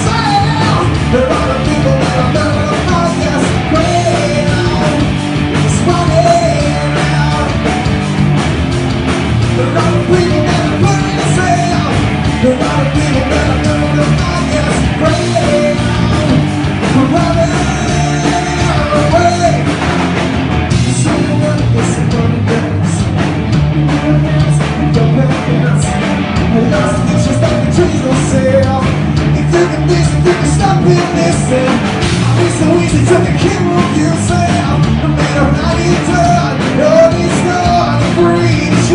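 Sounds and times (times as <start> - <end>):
bass guitar: 0.0 - 38.9
distorted electric guitar: 0.0 - 38.9
driving drum kit: 0.0 - 38.9.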